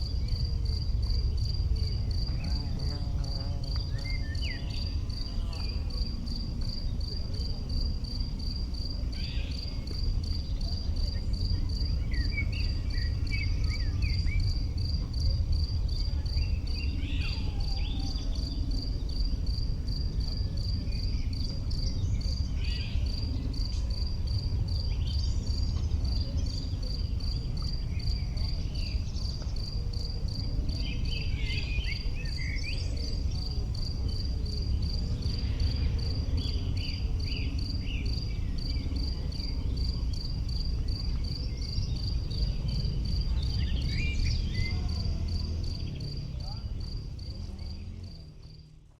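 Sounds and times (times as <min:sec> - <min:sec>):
insect chirping in steady rhythm: 0:00.0 - 0:48.8
low steady rumble: 0:00.0 - 0:48.9.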